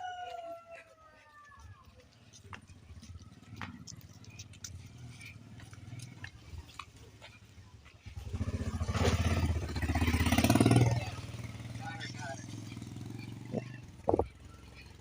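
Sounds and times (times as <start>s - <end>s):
vehicle engine running: 2.2s - 15.0s.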